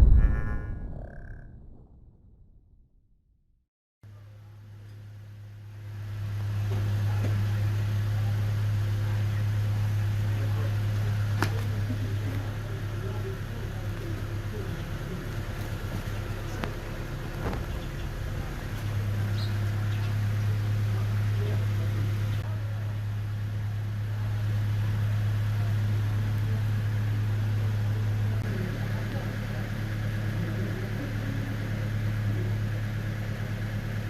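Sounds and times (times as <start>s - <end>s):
diesel engine idling: 5.3s - 34.0s.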